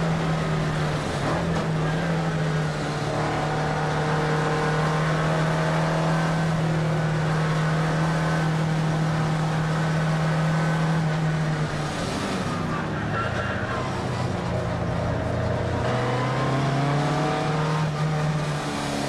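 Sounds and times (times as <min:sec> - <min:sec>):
car engine at steady revs: 0:00.0 - 0:19.0
road and wind noise: 0:00.0 - 0:19.0.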